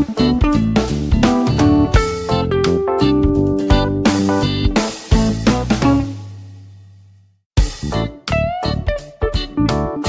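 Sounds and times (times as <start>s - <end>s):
background music: 0.0s - 6.8s, 7.6s - 10.0s.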